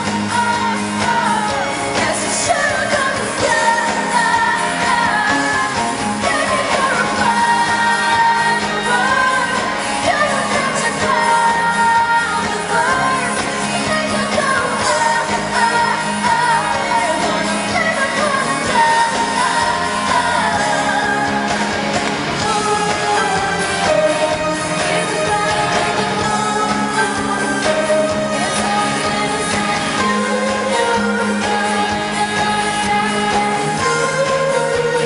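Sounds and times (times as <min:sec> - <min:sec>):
band playing pop music: 0:00.0 - 0:35.0
woman singing: 0:00.0 - 0:35.0.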